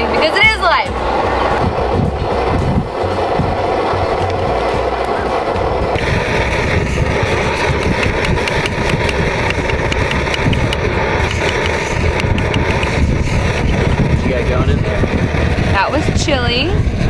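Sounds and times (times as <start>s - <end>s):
camp stove burning with hiss: 0.0s - 17.0s.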